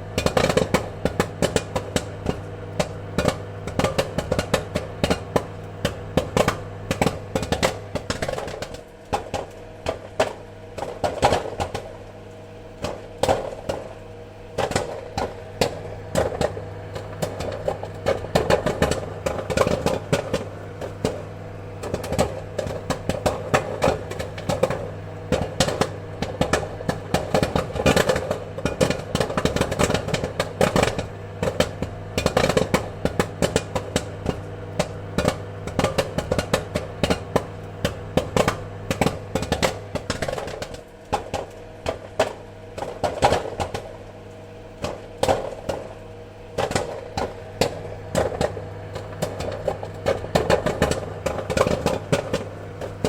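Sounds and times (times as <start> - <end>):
low machine hum: 0.0 - 53.0
popcorn popping: 0.0 - 53.0.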